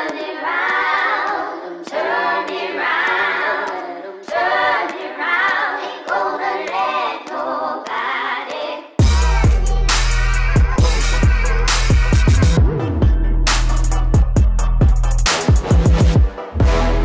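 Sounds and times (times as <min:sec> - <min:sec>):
a cappella group singing: 0:00.0 - 0:14.1.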